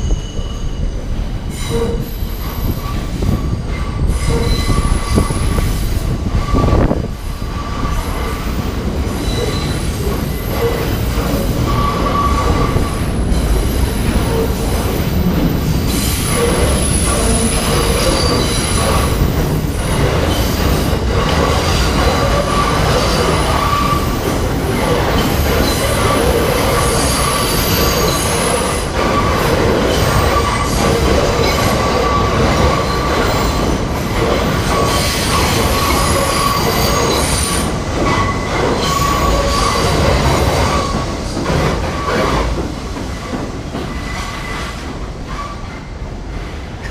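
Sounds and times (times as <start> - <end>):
train rumbling: 0.0 - 46.9
train wheels squealing on rails: 0.0 - 46.9.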